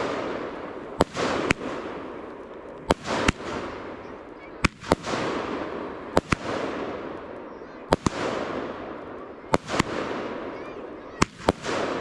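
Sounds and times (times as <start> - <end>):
crackling hiss of fireworks: 0.0 - 12.0
fireworks bangs: 0.0 - 12.0.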